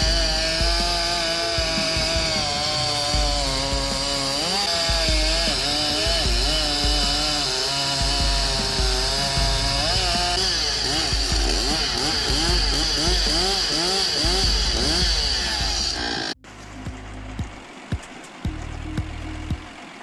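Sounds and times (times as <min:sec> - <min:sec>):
chainsaw cutting a log: 0:00.0 - 0:16.4.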